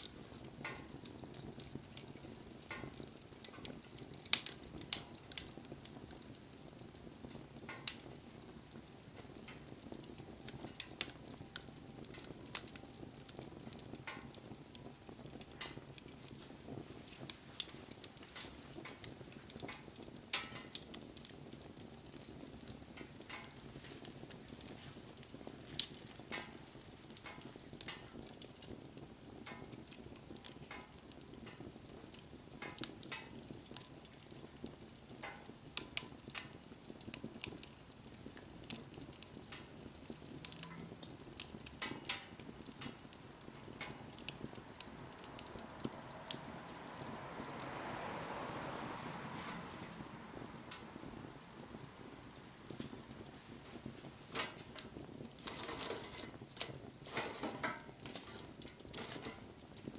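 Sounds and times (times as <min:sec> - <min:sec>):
bonfire crackling: 0:00.0 - 0:59.9.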